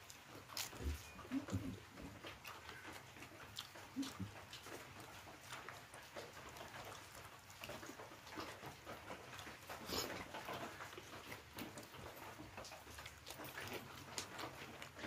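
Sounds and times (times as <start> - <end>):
person chewing and lip smacking: 0.0 - 15.0.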